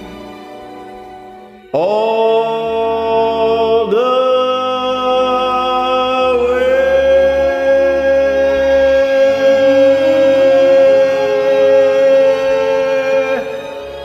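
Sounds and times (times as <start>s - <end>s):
karaoke backing track: 0.0s - 14.0s
man singing long notes: 1.7s - 14.0s.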